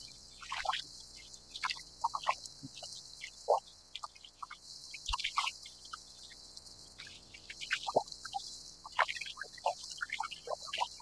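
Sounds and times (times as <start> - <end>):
cicada chorus hiss: 0.0 - 11.0.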